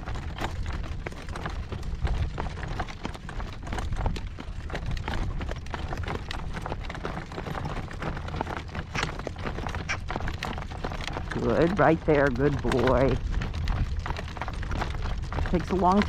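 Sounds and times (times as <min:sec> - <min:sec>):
continuous low rumble: 0:00.0 - 0:16.0
horse hooves clip-clopping: 0:00.0 - 0:16.0.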